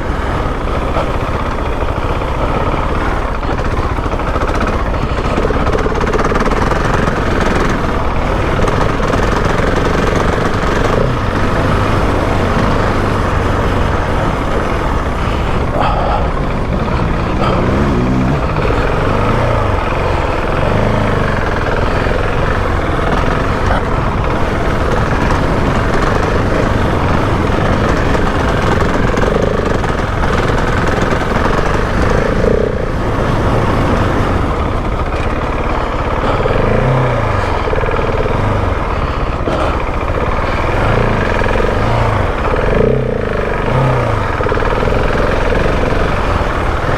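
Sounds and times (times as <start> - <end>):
motorcycle engine revving under load: 0.0 - 46.9.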